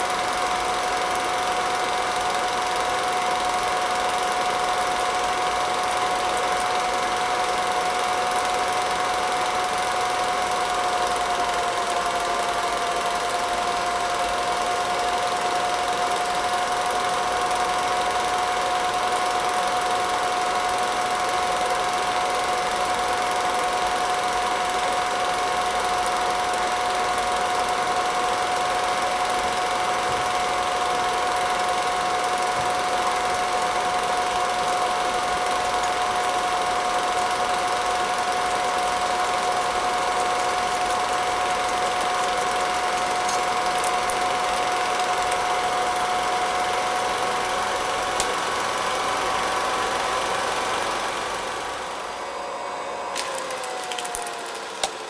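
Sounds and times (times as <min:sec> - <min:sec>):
film projector whine: 0:00.0 - 0:55.0.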